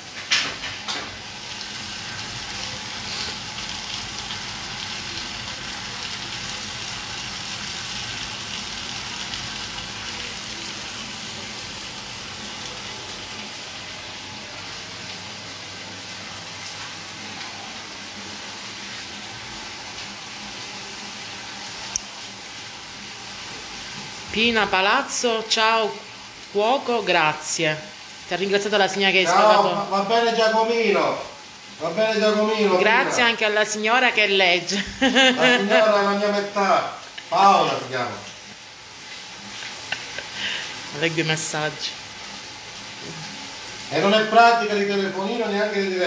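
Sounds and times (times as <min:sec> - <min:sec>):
vegetables sizzling in oil: 0:00.0 - 0:46.0.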